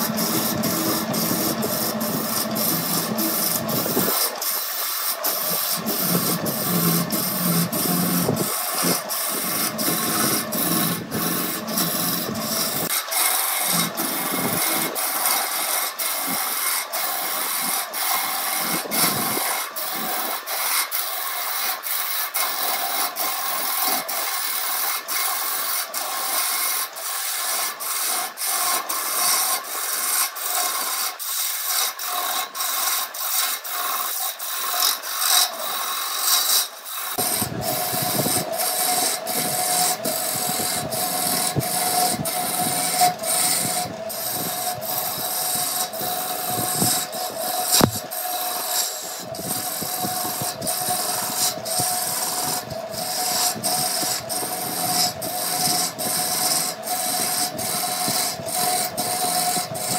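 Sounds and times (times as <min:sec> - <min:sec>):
chisel rasping on spinning wood: 0:00.0 - 0:59.9
lathe rumble and hum: 0:00.0 - 0:59.9.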